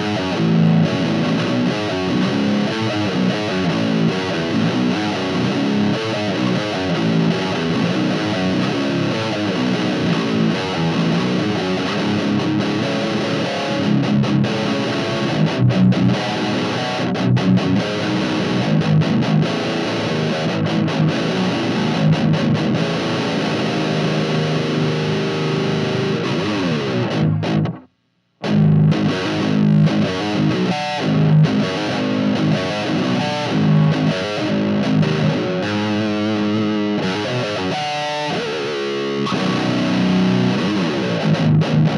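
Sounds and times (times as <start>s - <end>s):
distorted electric guitar riffs: 0.0s - 41.9s.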